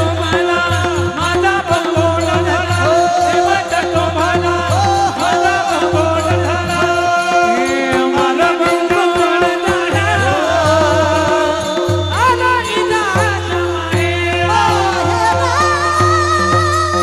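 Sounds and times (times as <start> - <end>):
drum strokes: 0.0 - 17.0
person singing ornamented melody: 2.4 - 17.0.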